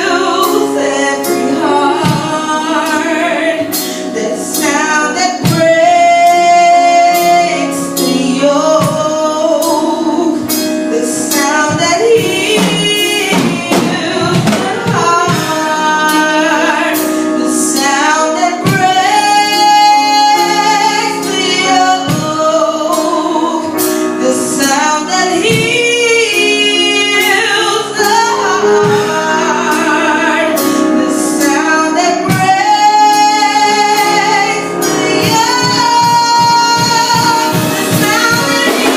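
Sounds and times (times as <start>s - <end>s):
gospel instrumental music: 0.0s - 38.9s
woman singing lead: 0.0s - 38.9s.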